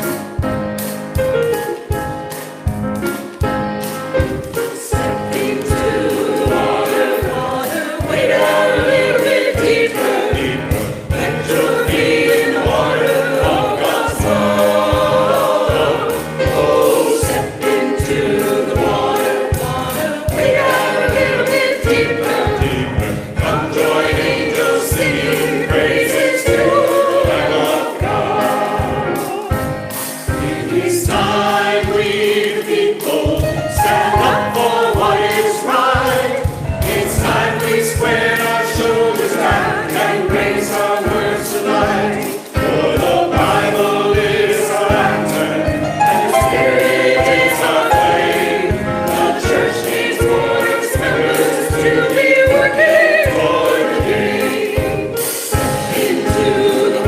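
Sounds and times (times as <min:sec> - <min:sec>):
choir singing gospel: 0:00.0 - 0:57.0.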